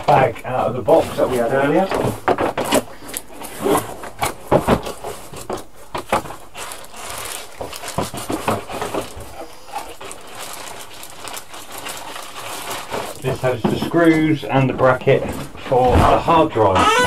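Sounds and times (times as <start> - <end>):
rustling: 0.0 - 16.8.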